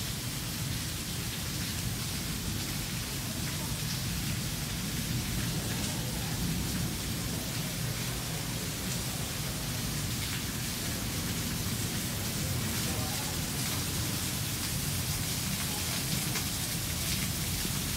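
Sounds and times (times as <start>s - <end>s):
rain on wet street: 0.0s - 17.9s.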